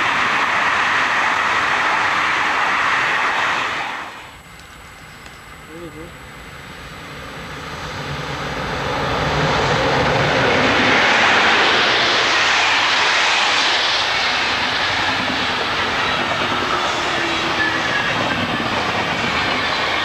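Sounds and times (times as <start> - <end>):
train passing with rushing roar: 0.0 - 20.0.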